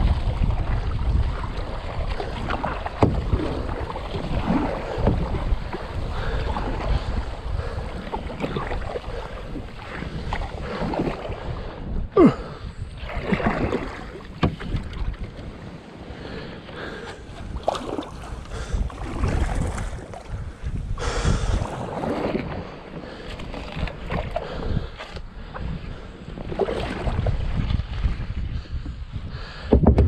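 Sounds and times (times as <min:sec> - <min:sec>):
paddle strokes splashing water: 0:00.0 - 0:28.7
wind buffeting microphone: 0:00.0 - 0:30.0.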